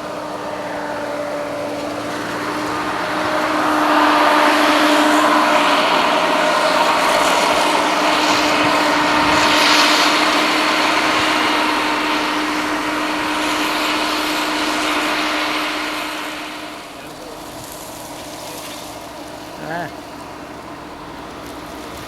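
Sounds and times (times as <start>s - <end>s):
harvest machinery engine hum: 0.0s - 22.0s.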